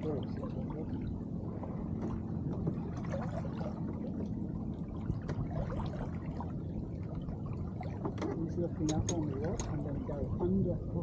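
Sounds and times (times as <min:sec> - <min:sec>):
water splashing along boat hull: 0:00.0 - 0:11.0.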